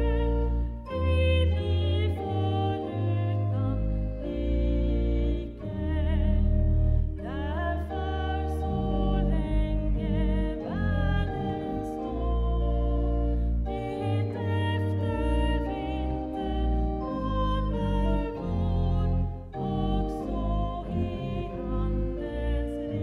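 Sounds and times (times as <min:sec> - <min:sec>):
pipe organ playing a hymn: 0:00.0 - 0:23.0.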